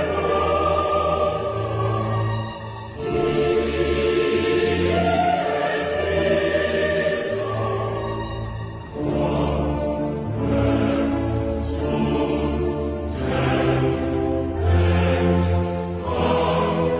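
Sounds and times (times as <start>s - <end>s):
choir singing operatic: 0.0s - 16.9s.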